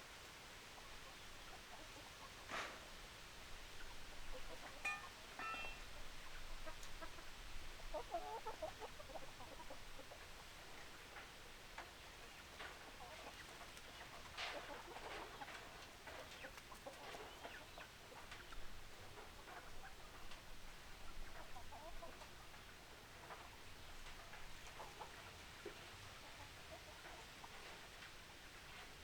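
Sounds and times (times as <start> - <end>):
chickens clucking: 0.7 - 29.0.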